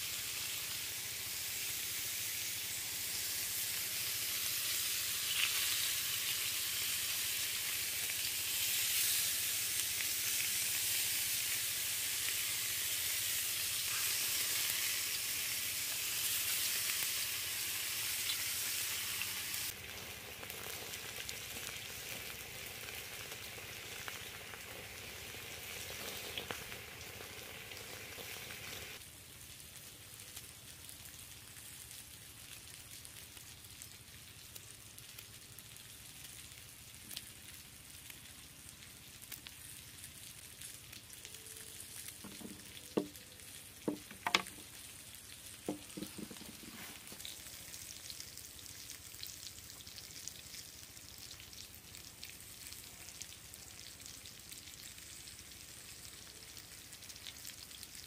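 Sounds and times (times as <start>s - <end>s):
skewers sizzling in oil: 0.0s - 58.0s.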